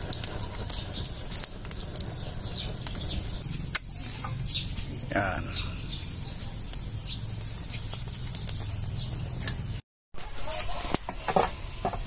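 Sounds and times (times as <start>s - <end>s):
fire pops and snaps: 0.0s - 12.0s
wood fire crackling: 0.0s - 12.0s.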